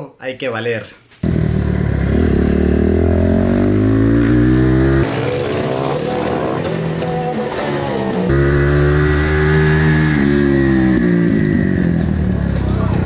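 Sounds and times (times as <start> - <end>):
motorcycle engine running hard: 1.2 - 13.0.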